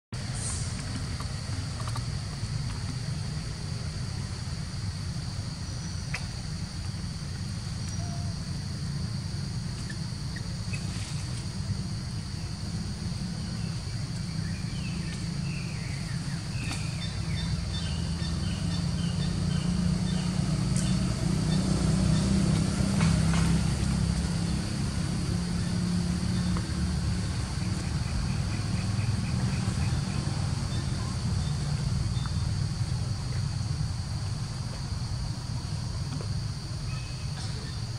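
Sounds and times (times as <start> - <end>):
high insect drone: 0.2 - 37.9.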